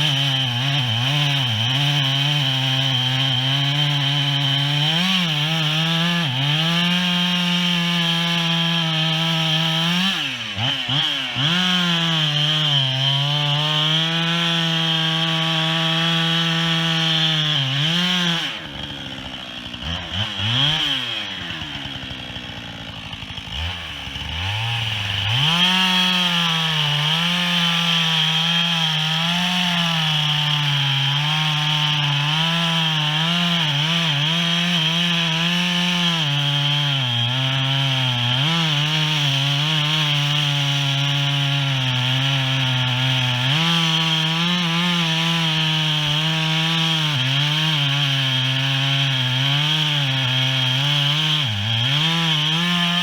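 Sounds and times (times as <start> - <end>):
chainsaw cutting into tree: 0.0 - 53.0.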